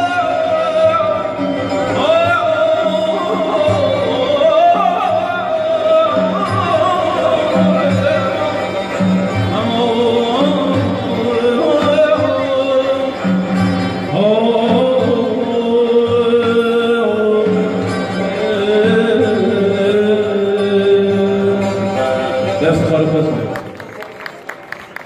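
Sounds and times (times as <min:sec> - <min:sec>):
man singing ornamented notes: 0:00.0 - 0:23.6
plucked lute: 0:00.0 - 0:23.6
bowed string instrument: 0:00.0 - 0:24.4.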